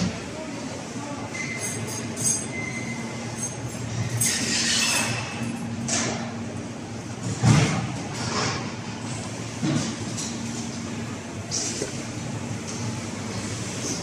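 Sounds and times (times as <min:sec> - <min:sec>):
factory machinery humming: 0:00.0 - 0:14.0.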